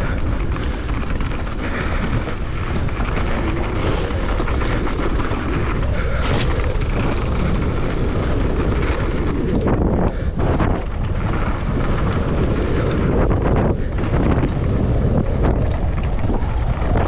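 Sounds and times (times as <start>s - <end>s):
bike rattling over bumps: 0.0s - 17.0s
bike tyres on dirt: 0.0s - 17.0s
wind rush on microphone: 0.0s - 17.0s.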